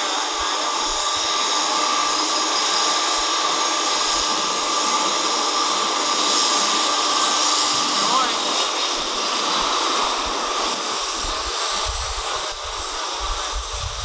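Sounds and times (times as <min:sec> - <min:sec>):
jet engines whining: 0:00.0 - 0:14.0.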